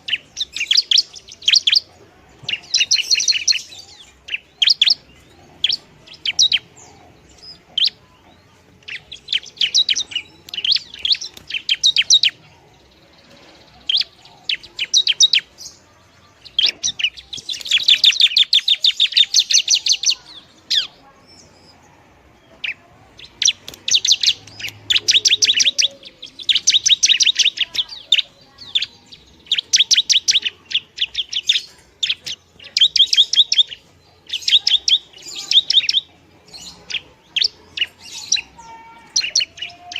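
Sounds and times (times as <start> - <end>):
bird high chattering song: 0.0 - 39.9.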